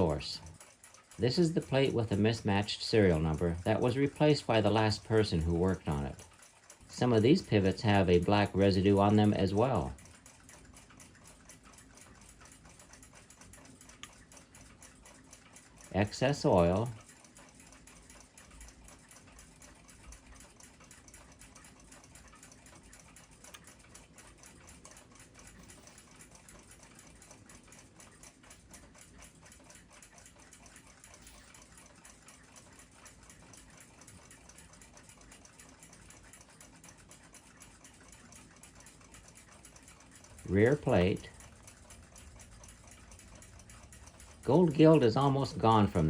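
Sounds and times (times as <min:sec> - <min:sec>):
clock ticking quickly: 0:00.0 - 0:46.0.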